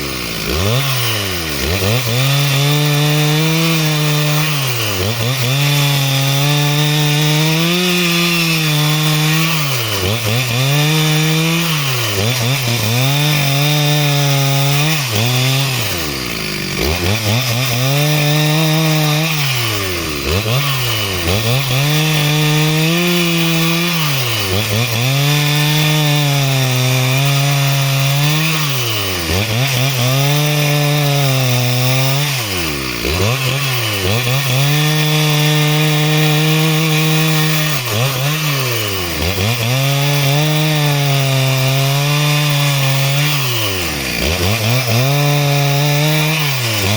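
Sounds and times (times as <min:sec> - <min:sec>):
chainsaw sawing timber: 0:00.0 - 0:46.9.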